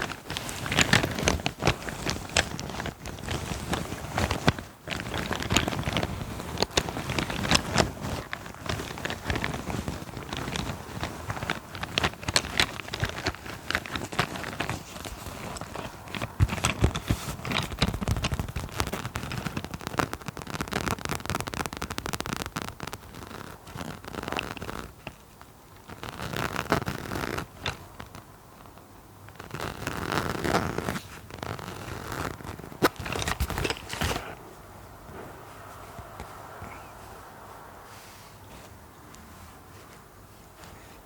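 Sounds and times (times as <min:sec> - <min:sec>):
tapping and scratching on objects: 0:00.0 - 0:34.4.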